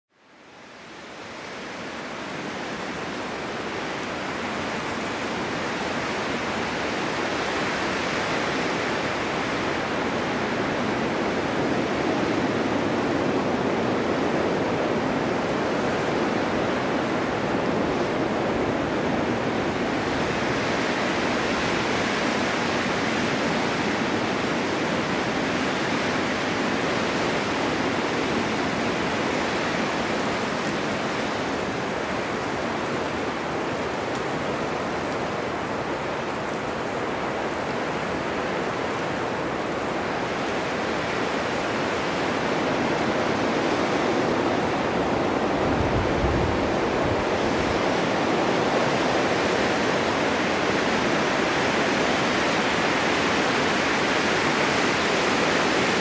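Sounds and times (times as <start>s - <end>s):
snowstorm wind blowing: 0.3s - 56.0s.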